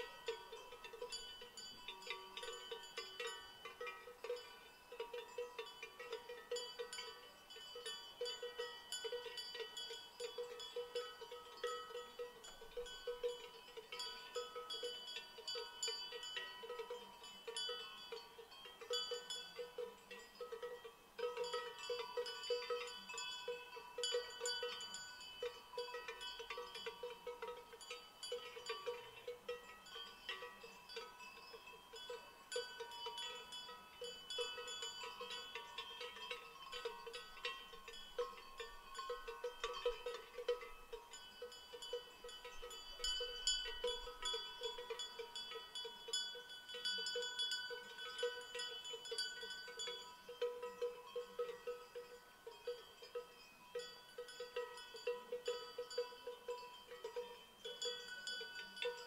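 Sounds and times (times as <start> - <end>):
cowbells clanking: 0.0 - 59.0.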